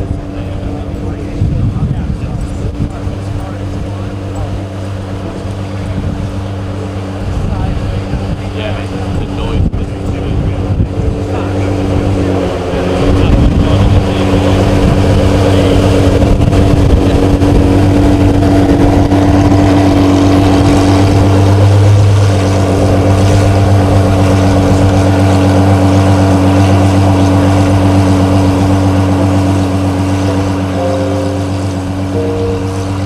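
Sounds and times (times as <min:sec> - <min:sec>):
car engine running steadily: 0:00.0 - 0:33.0.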